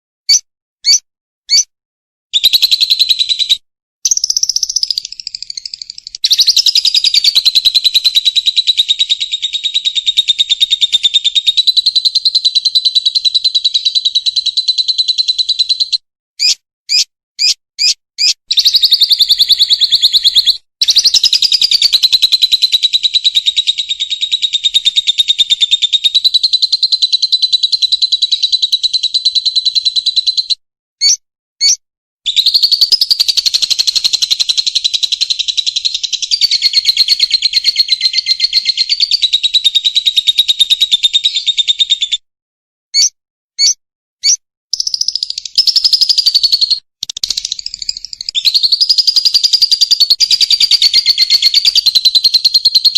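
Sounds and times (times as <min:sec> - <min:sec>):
bird chattering trills: 0:00.3 - 0:01.7, 0:02.4 - 0:42.2, 0:43.0 - 0:52.9
bird chirps: 0:00.3 - 0:01.7, 0:02.3 - 0:42.2, 0:42.9 - 0:52.9.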